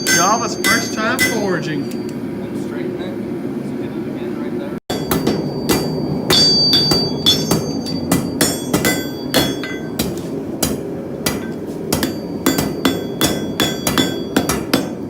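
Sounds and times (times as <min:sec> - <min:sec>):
hammer striking steel on anvil: 0:00.0 - 0:02.2, 0:04.9 - 0:15.0.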